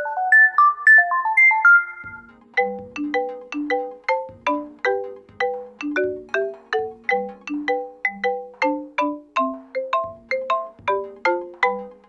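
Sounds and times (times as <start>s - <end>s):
doorbell chime electronic melodies: 0.0s - 12.0s.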